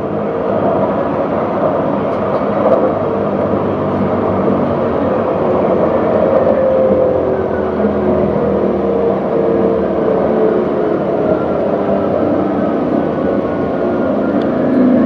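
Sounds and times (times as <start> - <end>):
tram rolling rumble: 0.0 - 15.0.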